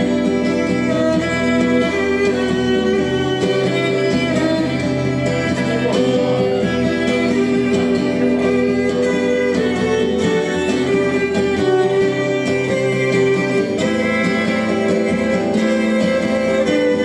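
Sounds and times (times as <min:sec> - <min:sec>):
strummed acoustic guitar: 0:00.0 - 0:17.0
violin holding long notes: 0:00.0 - 0:17.0.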